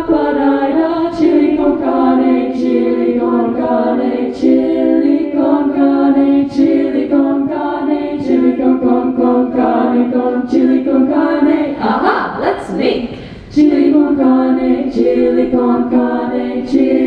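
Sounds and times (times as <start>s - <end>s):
women singing in harmony: 0.0s - 17.0s.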